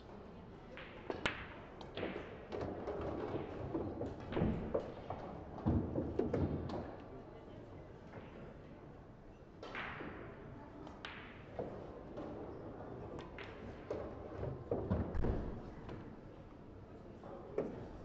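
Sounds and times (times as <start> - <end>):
pool hall room sound: 0.0 - 18.0.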